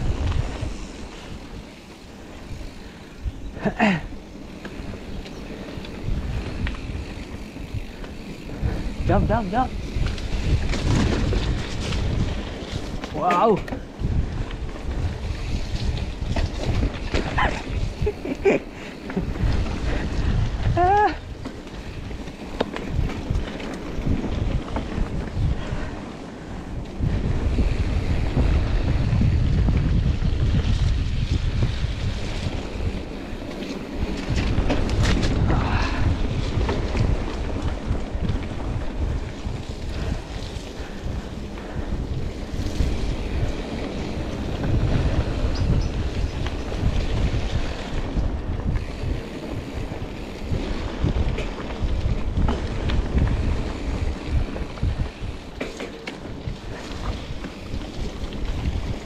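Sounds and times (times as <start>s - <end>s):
bike rattles: 0.0s - 59.0s
mountain bike rolling on dirt: 0.0s - 59.0s
wind buffeting microphone: 0.0s - 59.0s.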